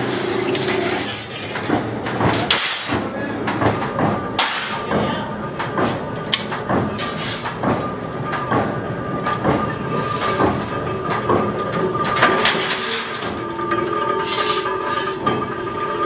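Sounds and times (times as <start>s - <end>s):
machine hum: 0.0s - 16.0s
metallic knocks and clanks: 0.5s - 14.2s.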